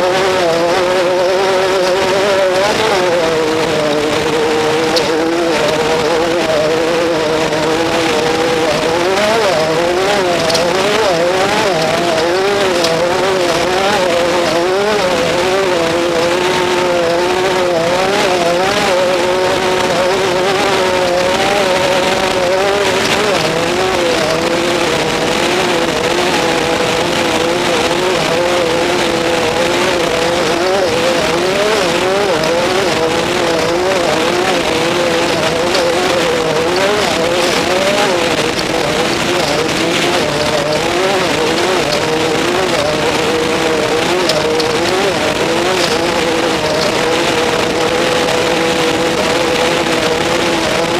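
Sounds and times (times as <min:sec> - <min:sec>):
race vehicle engines revving: 0:00.0 - 0:50.9.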